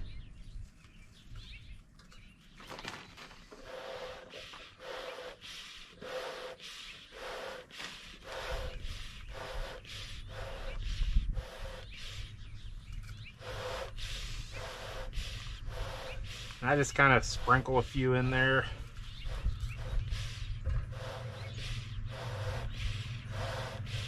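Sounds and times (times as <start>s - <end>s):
bellows puffing air: 3.5s - 24.0s.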